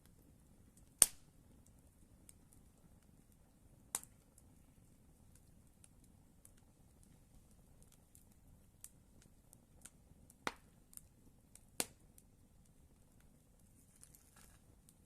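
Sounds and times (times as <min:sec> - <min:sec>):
faint campfire crackling: 0:00.0 - 0:15.0
sharp pops from burning wood: 0:00.0 - 0:15.0.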